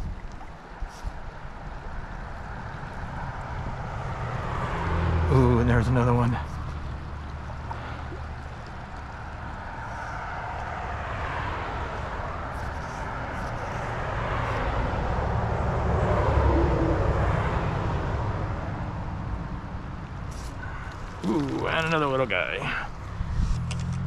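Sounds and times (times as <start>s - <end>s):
creek rushing: 0.0s - 17.9s, 20.2s - 23.8s
passing vehicle engine rumble: 1.0s - 24.0s.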